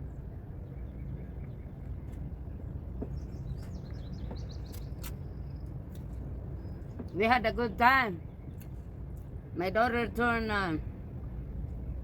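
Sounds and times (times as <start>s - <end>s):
small birds chirping: 0.0s - 9.7s
steady low rumble: 0.0s - 12.0s.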